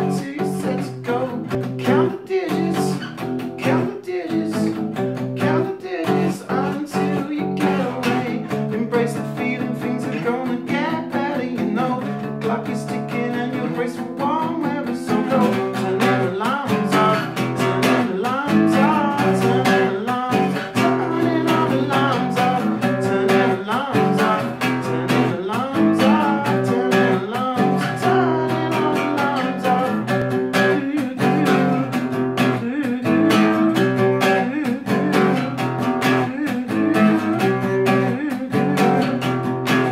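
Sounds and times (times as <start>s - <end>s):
acoustic guitar: 0.0s - 39.9s
man singing: 0.0s - 39.9s.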